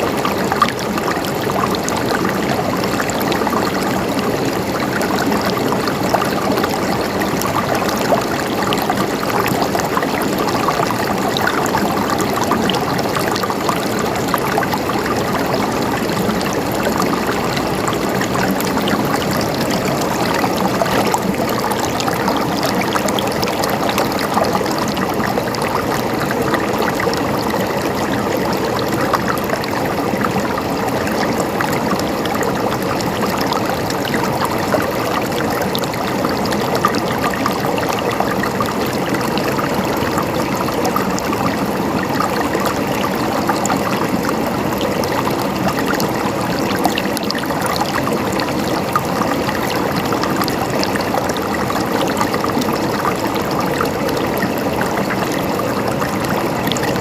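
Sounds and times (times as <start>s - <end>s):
running water gurgling: 0.0s - 57.0s.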